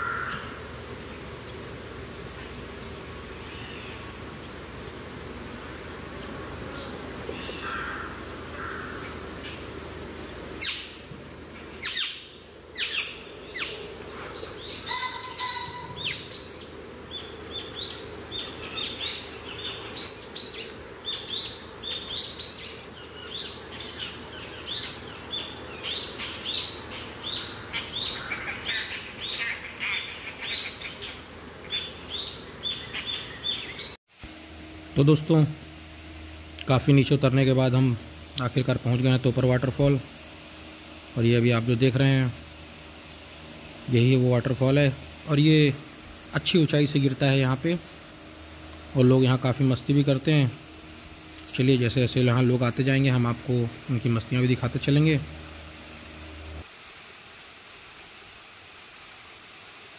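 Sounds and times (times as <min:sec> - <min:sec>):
wild birds chirping: 0:00.0 - 0:34.0, 0:34.6 - 0:56.6
steady low hum: 0:00.0 - 0:57.1.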